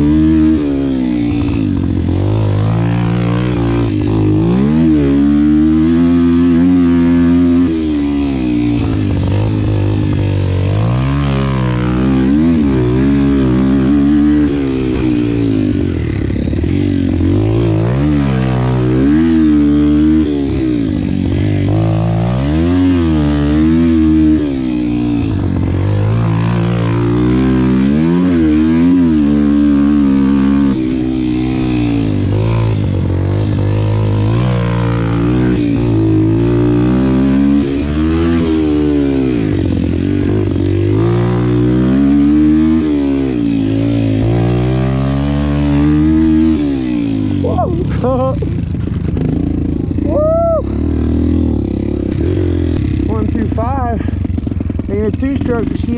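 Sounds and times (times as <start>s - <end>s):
motorbike engine revving: 0.0s - 55.9s.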